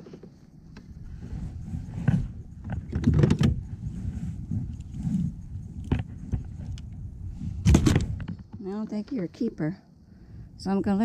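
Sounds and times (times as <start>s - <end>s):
low uneven rumble: 0.0s - 11.0s.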